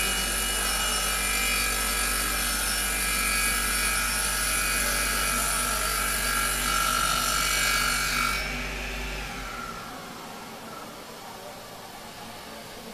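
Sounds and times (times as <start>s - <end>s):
circular saw whine: 0.0s - 10.9s.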